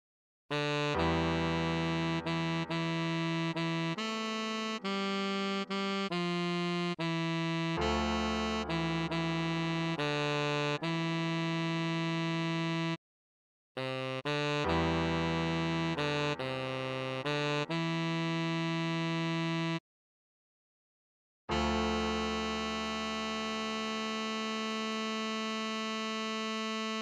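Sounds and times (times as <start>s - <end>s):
synthesized tenor saxophone melody: 0.5s - 13.0s, 13.8s - 19.8s, 21.5s - 27.0s.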